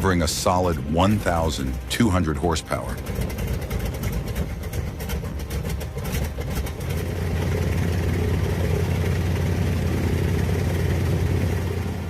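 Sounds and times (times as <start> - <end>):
radial aircraft engine running: 0.0 - 12.0.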